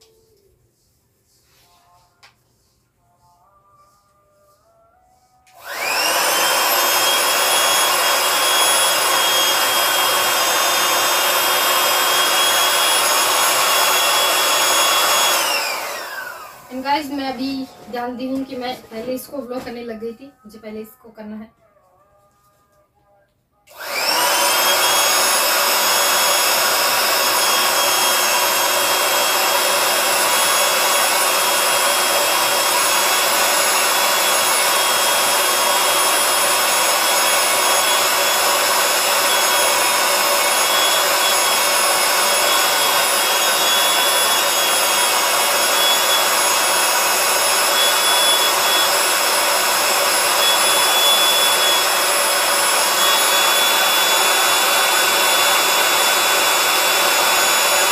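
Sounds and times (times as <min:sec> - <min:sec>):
hair dryer running: 0:05.4 - 0:19.7, 0:23.7 - 0:57.9.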